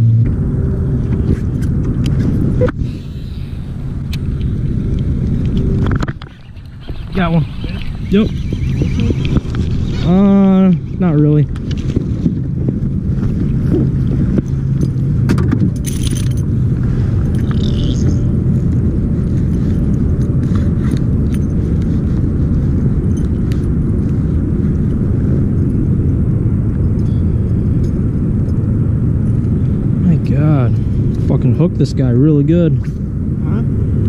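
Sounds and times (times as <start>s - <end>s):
boat motor running: 0.0s - 32.2s.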